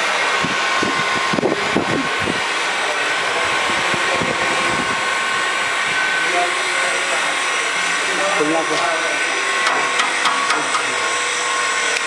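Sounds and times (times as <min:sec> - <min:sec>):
mixer grinder machine whining: 0:00.0 - 0:12.0.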